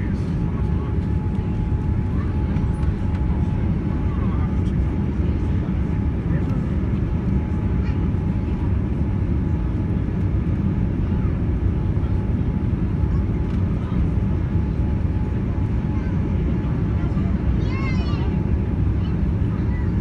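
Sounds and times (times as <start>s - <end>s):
airliner cabin roar: 0.0s - 20.0s.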